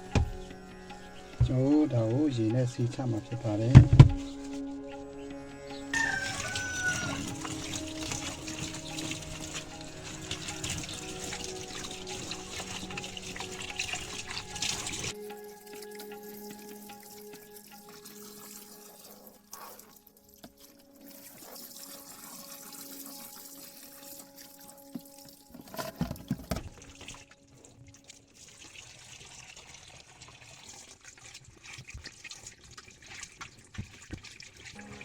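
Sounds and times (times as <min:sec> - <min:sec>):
water filling washing machine tub: 0:06.0 - 0:35.0.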